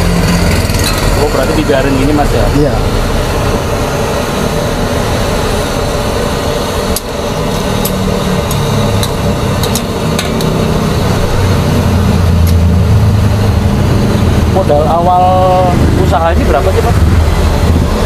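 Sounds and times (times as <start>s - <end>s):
sauce bubbling in a wok: 0.0s - 14.6s
loud burner roar: 0.0s - 18.0s.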